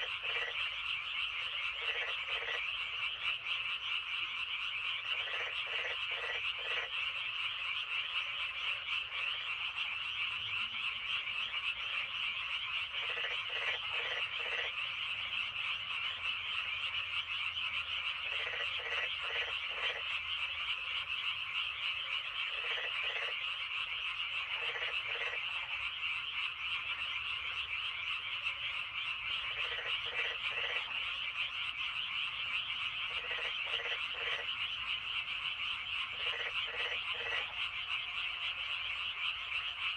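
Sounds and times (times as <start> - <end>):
chorus of frogs trilling: 0.0 - 39.9
low frog croaks: 0.0 - 39.9.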